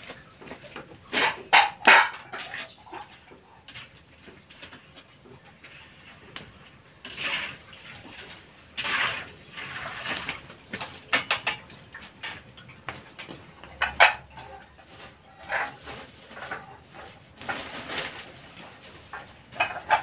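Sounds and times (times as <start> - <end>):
crackers sizzling in hot oil: 0.0 - 17.5.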